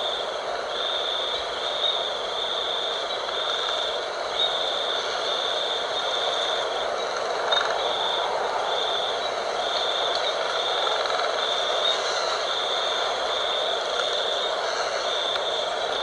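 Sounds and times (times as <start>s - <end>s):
wind blowing: 0.0s - 16.0s.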